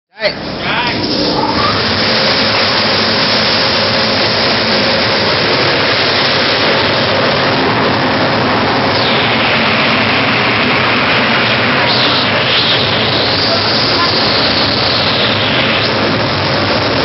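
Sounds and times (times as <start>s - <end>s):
industrial fan air rush: 0.2s - 17.0s.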